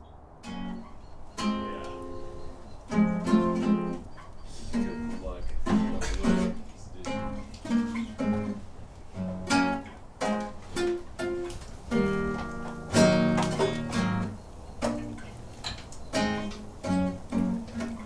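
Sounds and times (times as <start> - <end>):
guitar plucking and strumming: 0.4 - 18.0.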